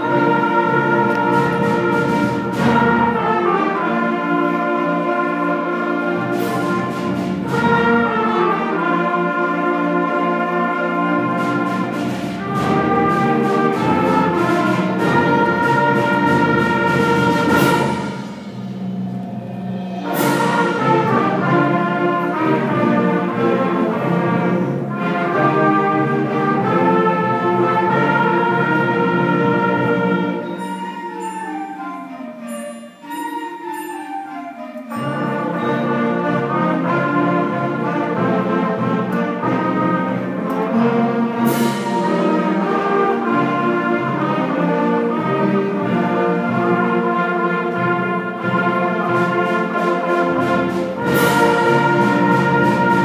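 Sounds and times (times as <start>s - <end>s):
concert band playing sustained chords: 0.0s - 53.0s.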